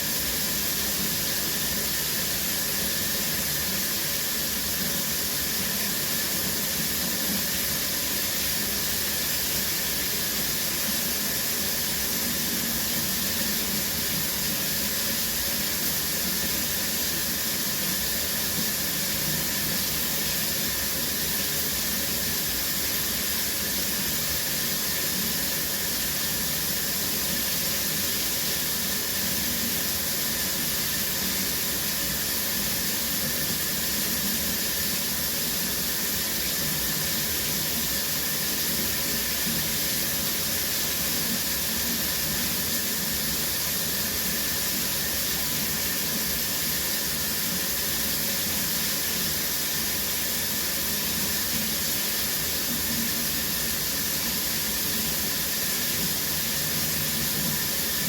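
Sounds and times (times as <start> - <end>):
shower water spraying: 0.0 - 58.0.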